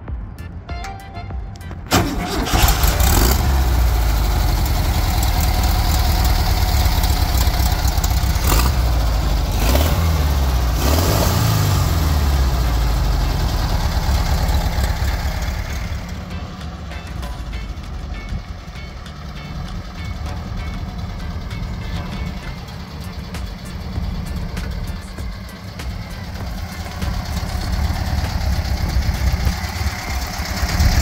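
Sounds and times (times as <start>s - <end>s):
engine starting and idling: 1.9s - 31.0s.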